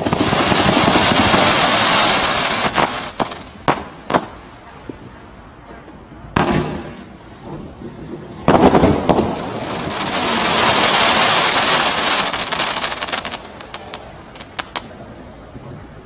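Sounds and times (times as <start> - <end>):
loud firework bangs: 0.0 - 4.4, 6.3 - 14.9
crackling firework stars: 0.0 - 5.1, 5.8 - 16.0.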